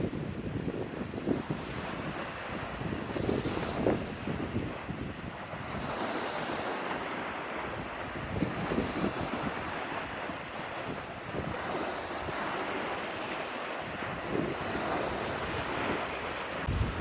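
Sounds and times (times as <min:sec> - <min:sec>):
waves washing onto shore: 0:00.0 - 0:17.0
wind buffeting microphone: 0:00.0 - 0:17.0.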